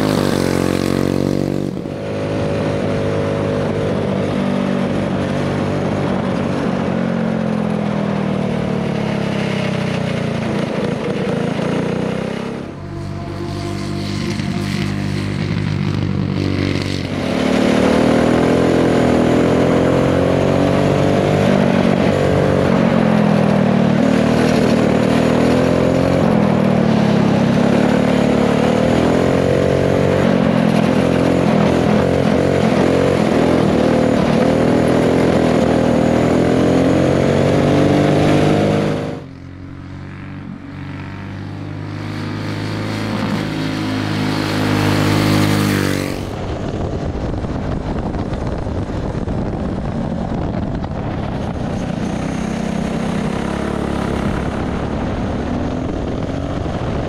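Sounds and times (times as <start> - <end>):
kart engine at high revs: 0.0 - 57.0.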